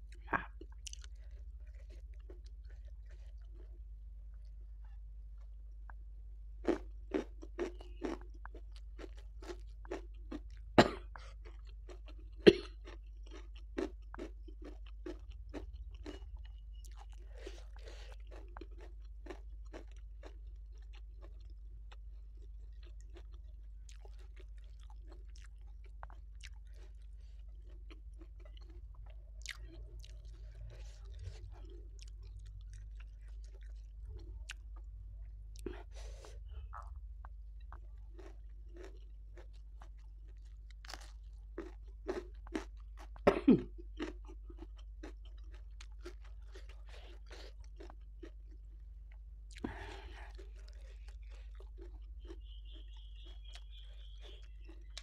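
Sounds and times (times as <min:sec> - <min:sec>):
crunchy chewing: 0:00.0 - 0:06.0, 0:06.6 - 0:55.0
soft chewing: 0:00.0 - 0:55.0.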